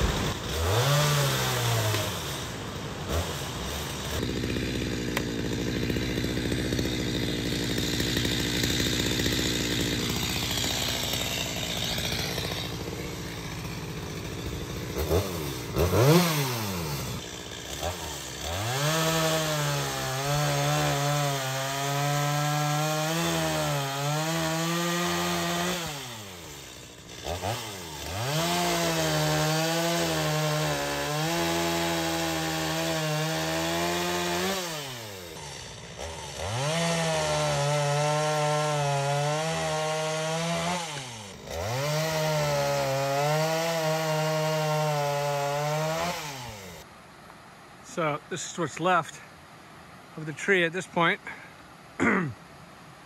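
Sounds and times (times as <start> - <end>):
chainsaw cutting log: 0.0 - 46.9.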